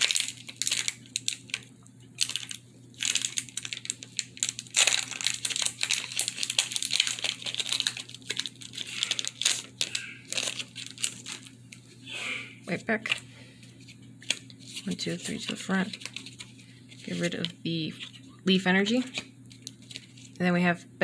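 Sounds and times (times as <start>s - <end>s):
foil wrapper tearing and crinkling: 0.0s - 11.6s, 14.2s - 18.2s, 19.0s - 20.4s.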